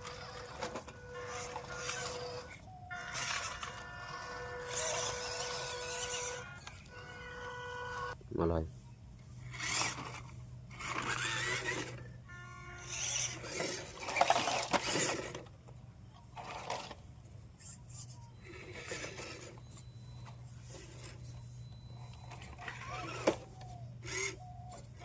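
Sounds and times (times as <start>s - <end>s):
toy car motor whirring: 0.0s - 8.2s, 9.3s - 25.0s
steady low hum: 0.0s - 25.0s.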